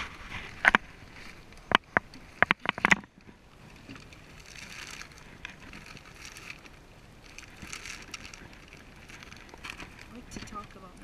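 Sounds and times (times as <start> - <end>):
faint rustling hiss: 0.0 - 11.0.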